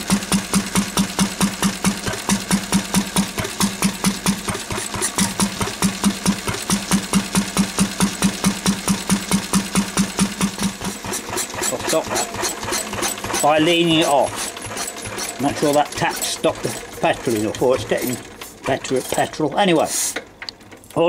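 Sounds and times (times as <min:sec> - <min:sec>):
stationary engine running: 0:00.0 - 0:19.6.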